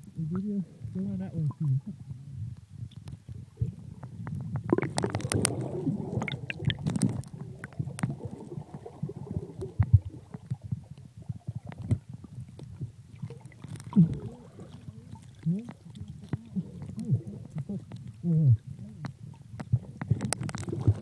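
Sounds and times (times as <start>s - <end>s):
muffled underwater rumble: 0.0s - 21.0s.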